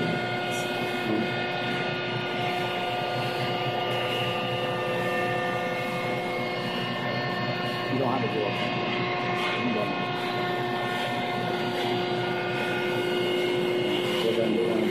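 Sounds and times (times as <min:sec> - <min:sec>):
industrial machinery humming: 0:00.0 - 0:14.9
steady whining tones: 0:00.0 - 0:14.9.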